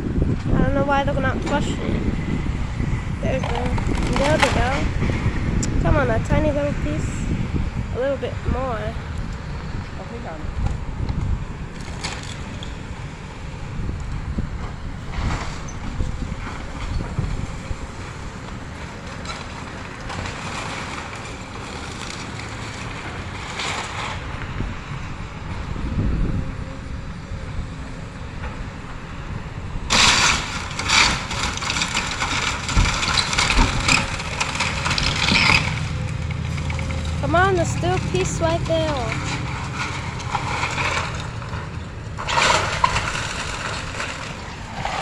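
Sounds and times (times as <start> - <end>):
excavator engine running: 0.0 - 45.0
wind buffeting microphone: 0.0 - 45.0
debris cracking and crunching: 0.1 - 26.1, 28.4 - 45.0.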